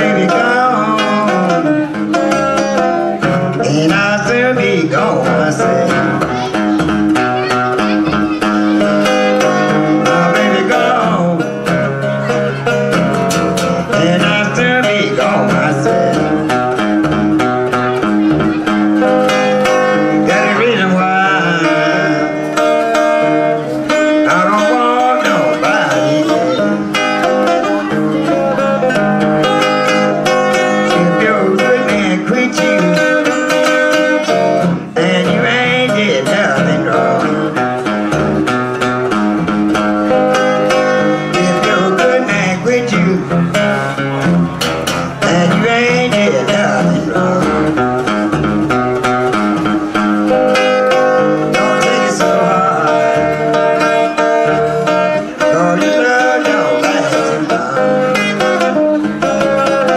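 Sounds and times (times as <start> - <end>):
acoustic guitar playing blues: 0.0 - 59.9.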